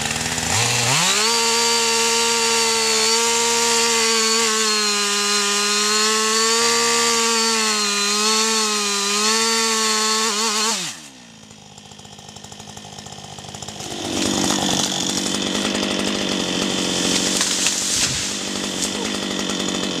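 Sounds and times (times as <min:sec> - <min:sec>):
petrol chainsaw running: 0:00.0 - 0:20.0.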